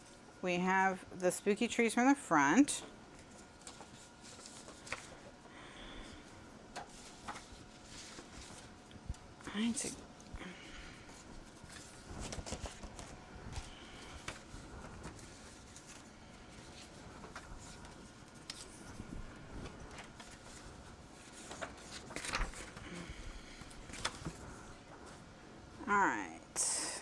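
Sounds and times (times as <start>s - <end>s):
paper sheets rustling: 3.1s - 10.0s, 10.6s - 25.4s.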